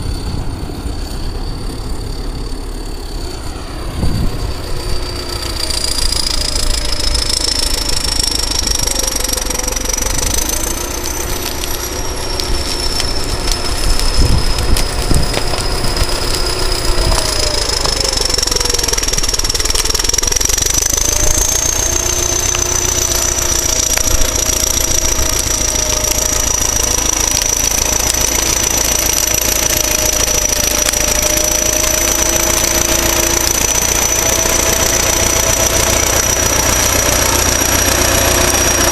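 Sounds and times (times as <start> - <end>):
diesel engine rumble: 0.0 - 38.9.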